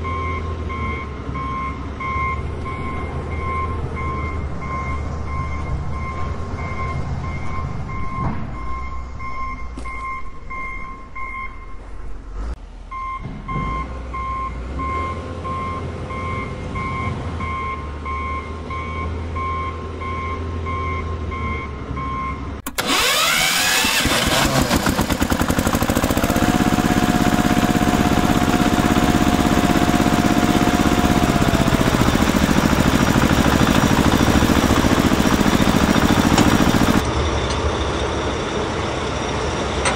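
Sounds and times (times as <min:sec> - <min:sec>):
engine whine: 0:00.0 - 0:39.9.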